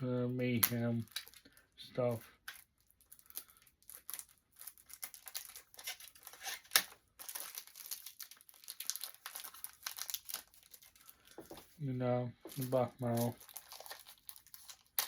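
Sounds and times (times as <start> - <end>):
packaging crinkling and rustling: 0.5 - 11.8, 12.5 - 15.0.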